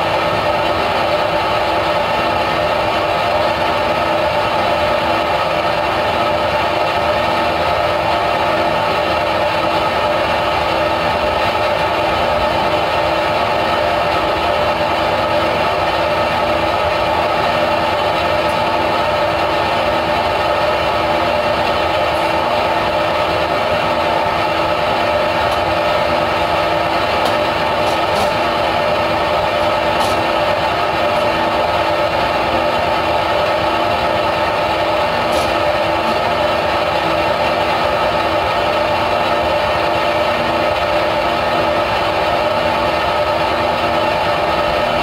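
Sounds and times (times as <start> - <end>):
machine motor drone: 0.0 - 45.0.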